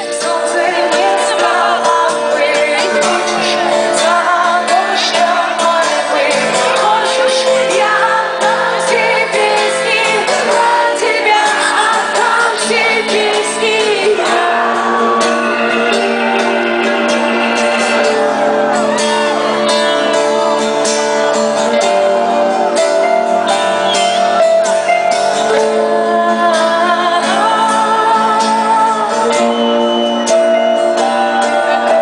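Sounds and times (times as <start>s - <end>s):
live rock band: 0.0s - 32.0s
person singing: 0.0s - 32.0s.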